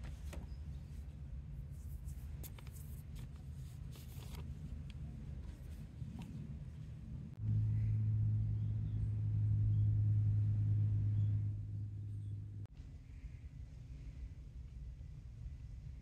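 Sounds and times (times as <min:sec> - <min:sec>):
faint low rumble: 0:00.0 - 0:16.0
steady low hum: 0:00.0 - 0:16.0.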